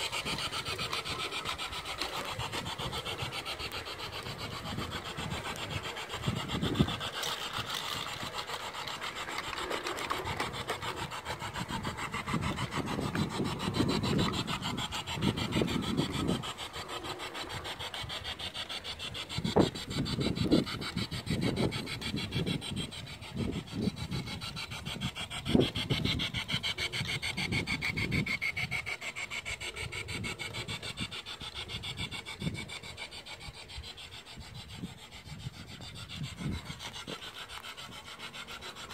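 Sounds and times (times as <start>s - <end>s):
model train wheels clattering: 0.0s - 38.9s.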